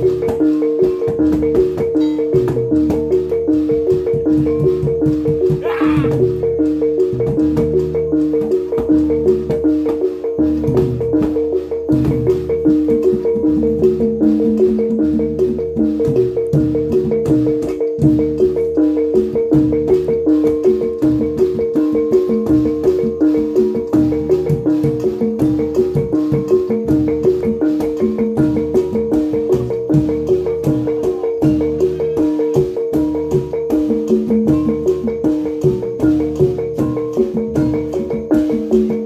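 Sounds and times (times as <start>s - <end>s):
gongs and metallophones playing: 0.0s - 39.0s.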